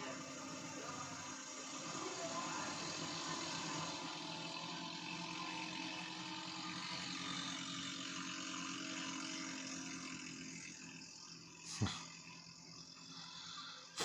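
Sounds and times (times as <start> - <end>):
racing tractor engines running: 0.0 - 14.0.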